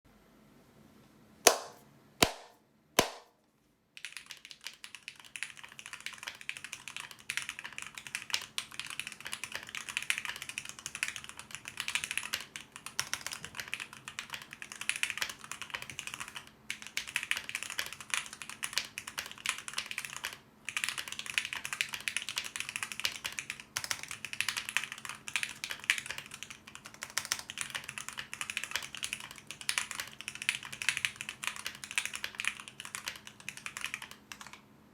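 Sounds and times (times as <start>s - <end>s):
fast mechanical keyboard typing: 4.0s - 34.6s.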